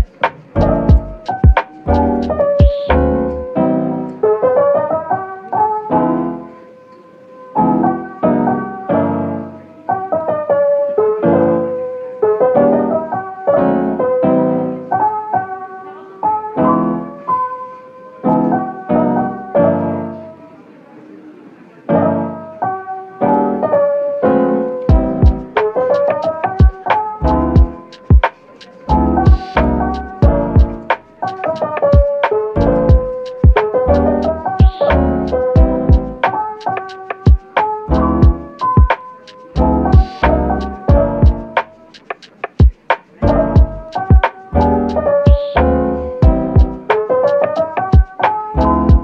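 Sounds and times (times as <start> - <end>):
slow piano music: 0.0 - 49.0.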